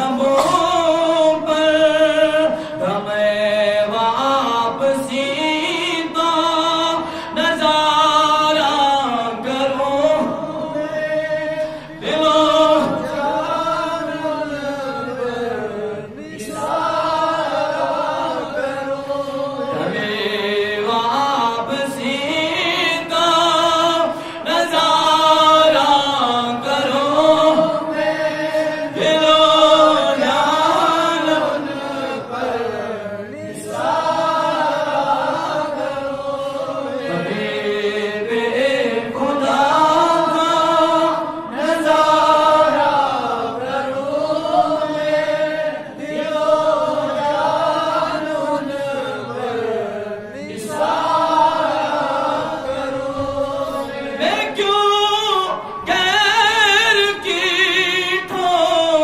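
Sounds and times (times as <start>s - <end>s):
man singing unaccompanied: 0.0s - 45.6s, 46.2s - 59.0s.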